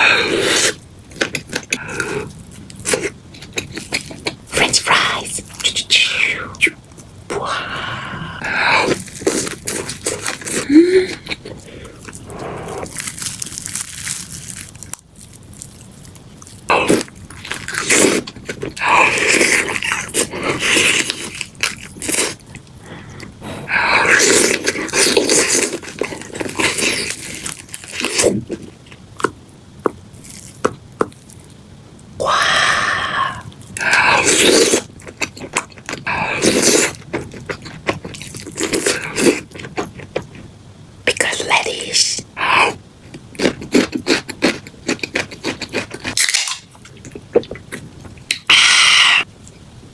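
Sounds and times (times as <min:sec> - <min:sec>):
crunchy chewing: 0:00.0 - 0:05.7, 0:08.4 - 0:31.6, 0:32.4 - 0:40.5, 0:43.0 - 0:49.6.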